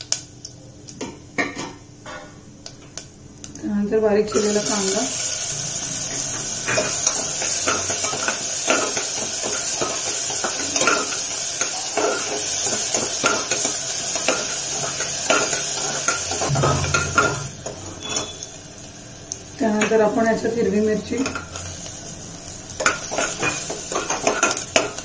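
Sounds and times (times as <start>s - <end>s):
onion sizzling in hot oil: 3.0s - 25.0s.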